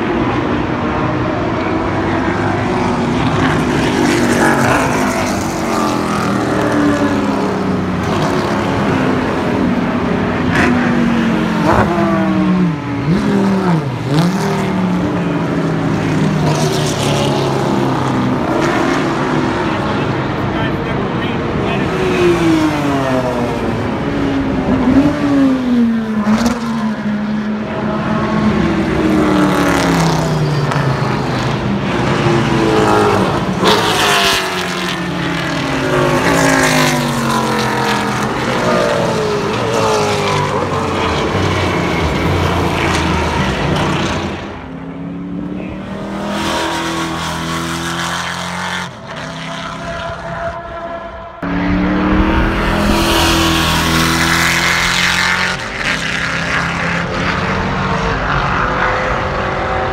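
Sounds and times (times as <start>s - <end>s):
race cars passing at speed: 0.0s - 59.9s.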